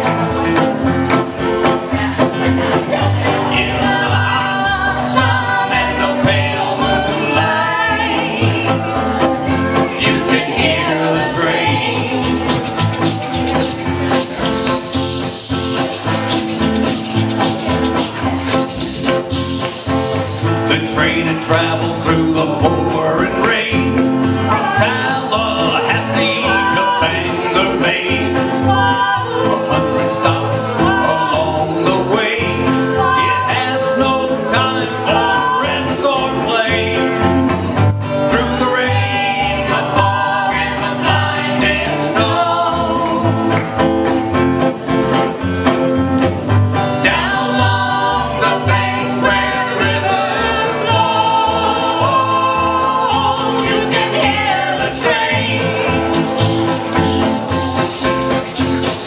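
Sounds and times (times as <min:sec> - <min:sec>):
bluegrass band music: 0:00.0 - 0:59.0
person singing: 0:01.5 - 0:37.4, 0:38.2 - 0:44.2, 0:46.9 - 0:59.0.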